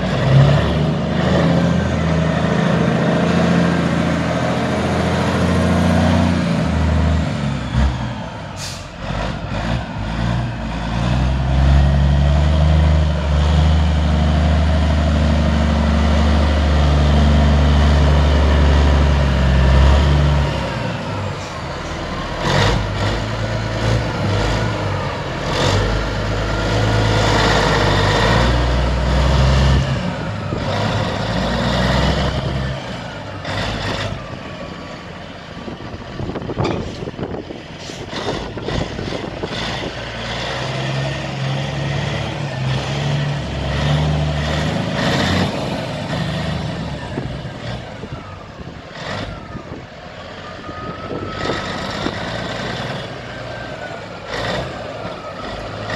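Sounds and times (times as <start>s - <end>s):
truck diesel engine running: 0.0s - 55.9s.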